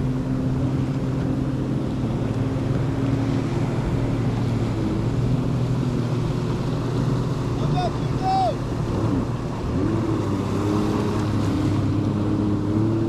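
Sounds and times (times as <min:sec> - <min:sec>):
jet ski engines idling: 0:00.0 - 0:13.0.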